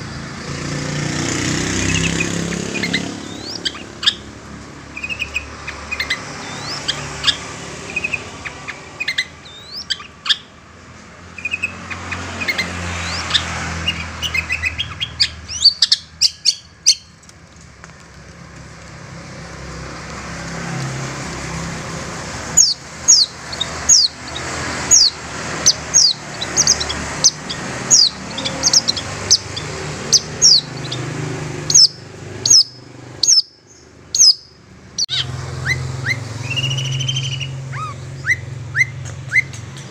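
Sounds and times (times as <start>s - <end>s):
shrike calling: 1.6s - 10.6s, 11.3s - 17.2s, 22.2s - 39.9s.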